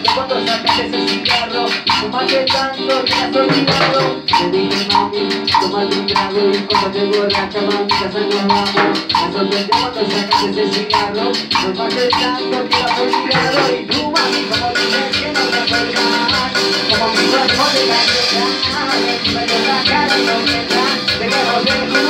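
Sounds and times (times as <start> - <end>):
electric bass: 0.0 - 22.0
steady percussion beat: 0.0 - 22.0.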